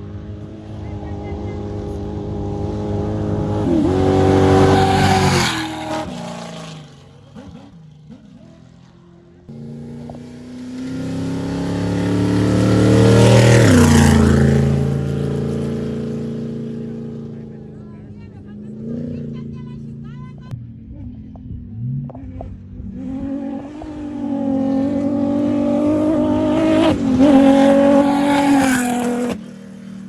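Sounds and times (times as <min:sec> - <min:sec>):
race vehicles passing at speed: 0:00.0 - 0:30.0.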